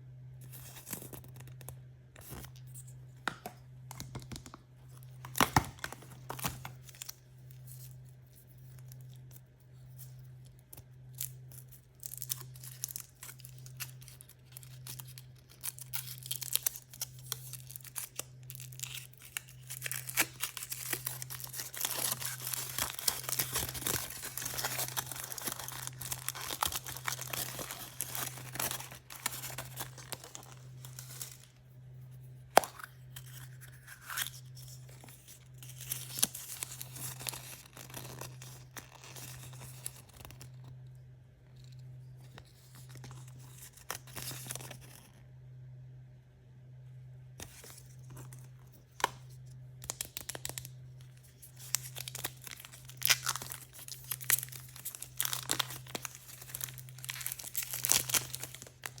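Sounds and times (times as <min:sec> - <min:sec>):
packaging crinkling: 0:00.5 - 0:31.6, 0:32.6 - 0:40.7, 0:42.4 - 0:45.1, 0:47.4 - 0:59.0.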